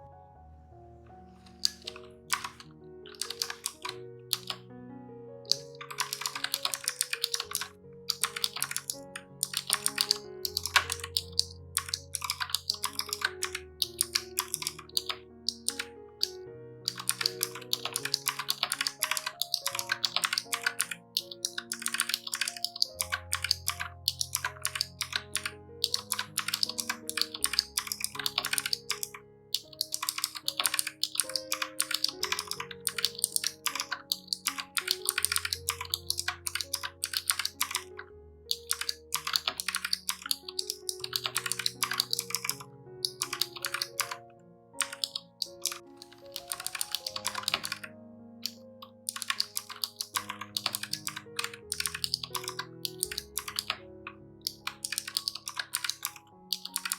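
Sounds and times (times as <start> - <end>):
background music: 0.0 - 56.9
mechanical keyboard key clicks: 1.6 - 4.6, 5.5 - 44.2, 44.8 - 53.8, 54.4 - 56.9.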